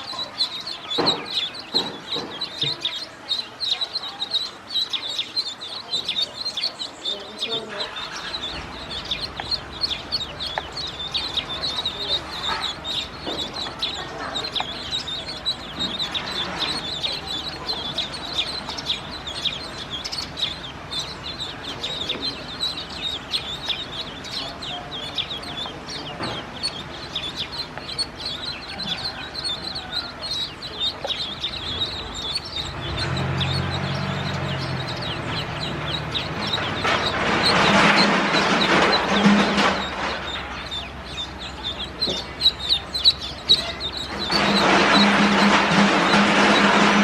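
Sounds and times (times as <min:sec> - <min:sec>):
ducklings peeping: 0:00.0 - 0:47.0.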